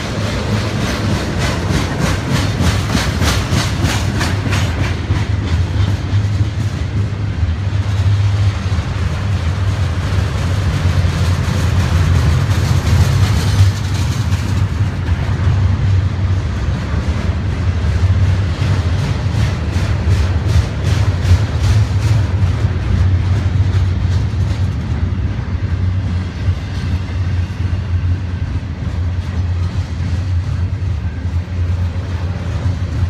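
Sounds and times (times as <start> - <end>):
freight train low rumble: 0.0 - 33.0
wheels clacking over rail joints: 0.0 - 33.0.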